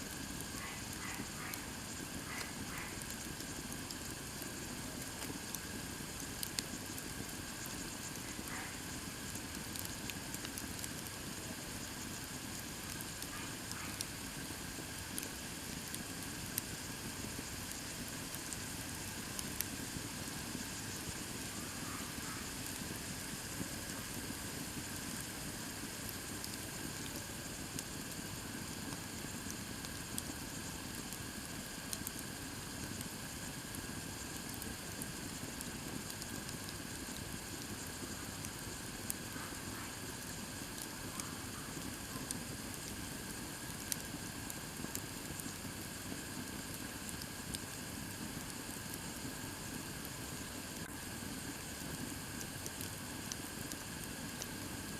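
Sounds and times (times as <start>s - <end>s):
campfire hissing and crackling: 0.0s - 54.9s.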